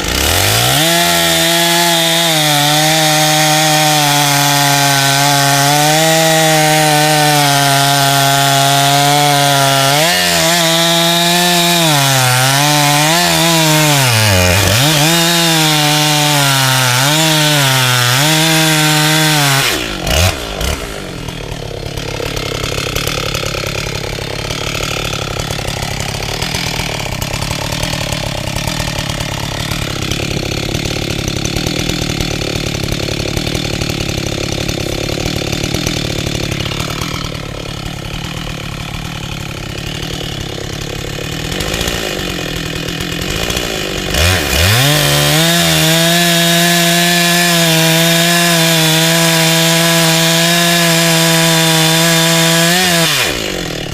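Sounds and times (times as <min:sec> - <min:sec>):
chainsaw cutting wood: 0:00.0 - 0:53.9
chainsaw rough idle: 0:00.0 - 0:53.9.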